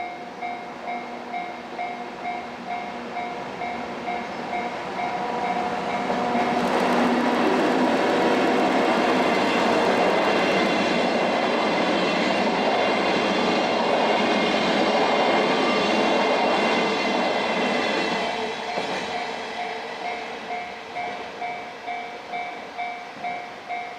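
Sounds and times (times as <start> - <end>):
freight train rolling past: 0.3 - 22.8.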